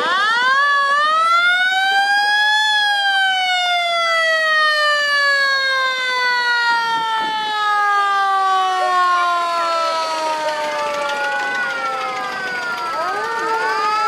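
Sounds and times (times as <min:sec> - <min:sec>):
siren-like wail sliding down: 0:00.0 - 0:14.0.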